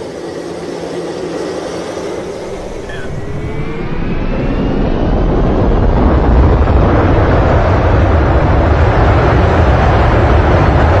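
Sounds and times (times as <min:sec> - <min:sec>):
airliner roaring on runway: 0:00.0 - 0:11.0.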